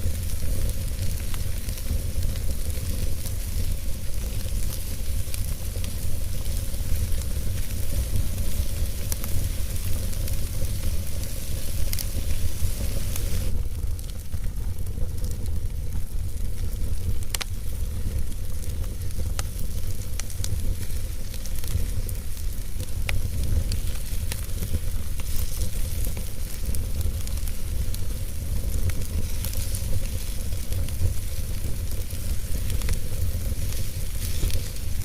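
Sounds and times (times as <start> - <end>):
burning wood crackling and popping: 0.0 - 35.0
low rumble of flames: 0.0 - 35.0.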